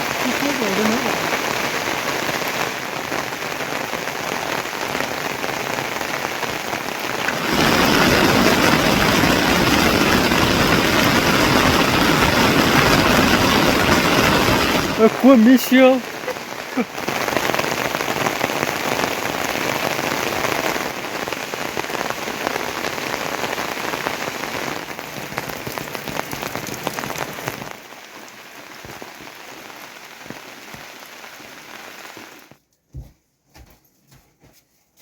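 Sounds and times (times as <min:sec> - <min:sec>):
rain pattering: 0:00.0 - 0:32.6.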